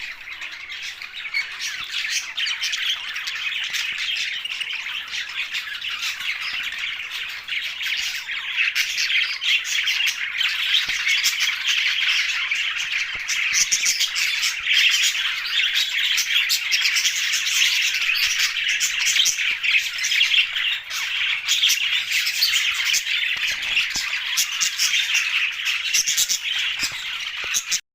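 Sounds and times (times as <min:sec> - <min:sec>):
budgerigars chattering and squawking: 0:00.0 - 0:27.8.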